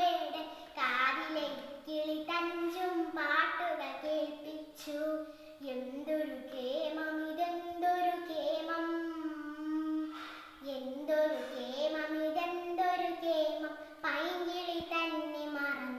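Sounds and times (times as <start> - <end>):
girl singing melodic recitation: 0.0 - 15.9.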